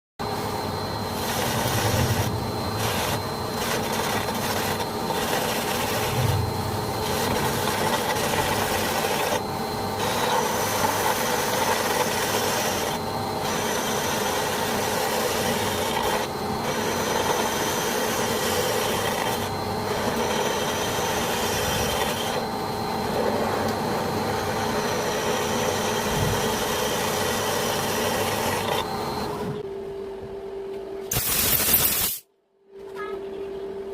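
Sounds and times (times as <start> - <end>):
steady machine whine: 0.2 - 33.9
machine tool grinding: 1.0 - 22.5, 23.2 - 29.3.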